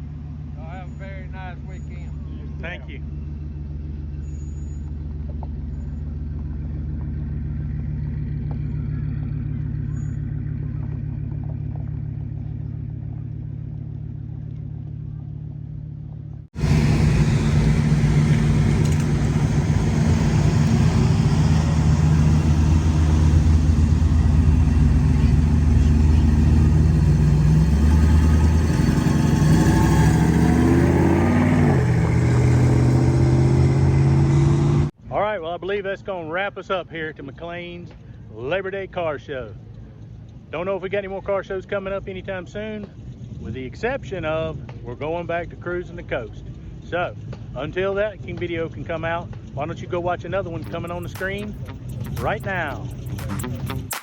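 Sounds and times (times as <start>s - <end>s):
car engine running: 0.0s - 35.0s, 37.2s - 54.0s.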